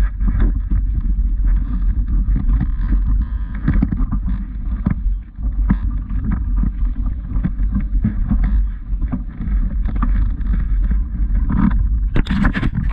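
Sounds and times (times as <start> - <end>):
wind buffeting the microphone: 0.0 - 12.9.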